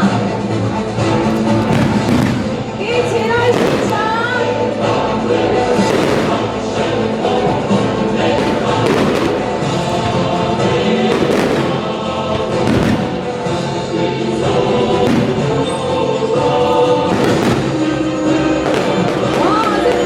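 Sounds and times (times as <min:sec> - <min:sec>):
music with choral singing: 0:00.0 - 0:20.0
aerial fireworks bursting: 0:01.1 - 0:20.0.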